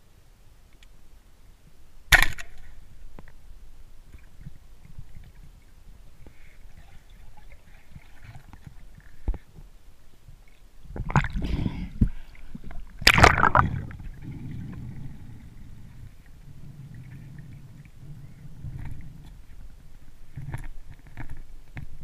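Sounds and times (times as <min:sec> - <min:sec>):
underwater rumble of moving water: 0:02.6 - 0:22.0.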